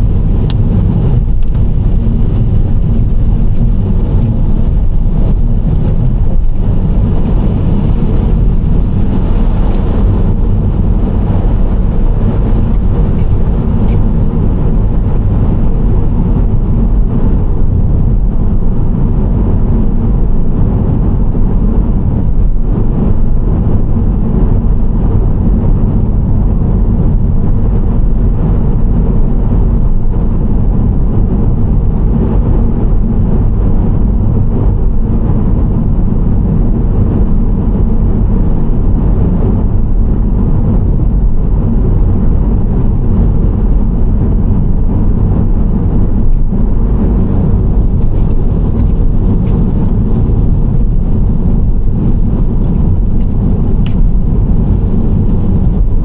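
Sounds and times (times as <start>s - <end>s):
car engine running: 0.0s - 56.0s
tyres rumbling on road: 0.0s - 56.0s.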